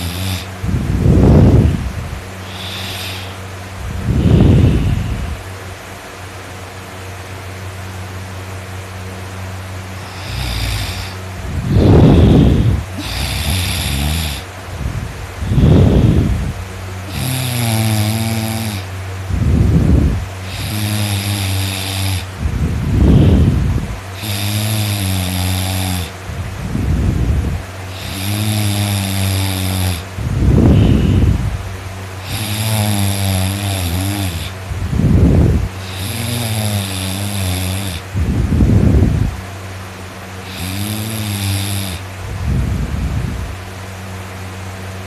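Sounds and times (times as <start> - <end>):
person snoring loudly: 0.0 - 5.4, 10.0 - 31.6, 32.2 - 39.3, 40.4 - 43.5.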